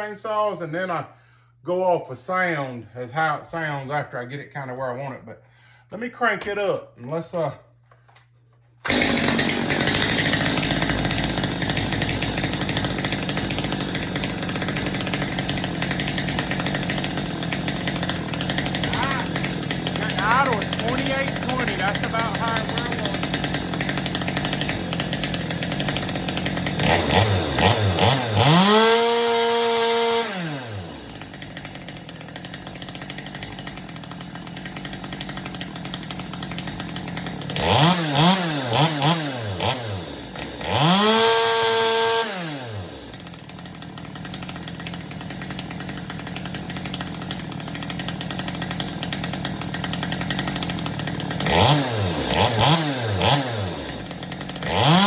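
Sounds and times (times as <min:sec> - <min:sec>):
chainsaw idling and revving: 0:08.8 - 0:55.0.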